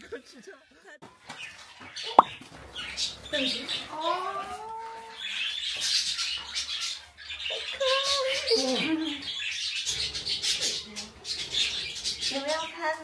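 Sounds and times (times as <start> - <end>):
birds chirping and squawking: 1.3 - 13.0.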